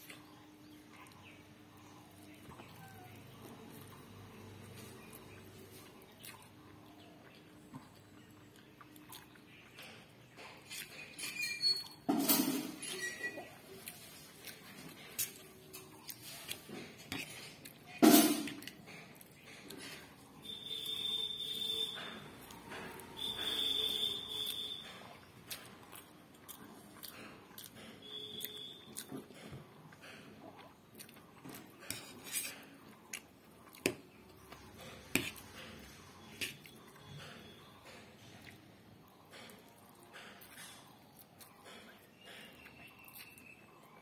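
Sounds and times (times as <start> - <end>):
chewing and slurping: 0.9 - 11.9, 12.9 - 21.2, 22.3 - 44.0.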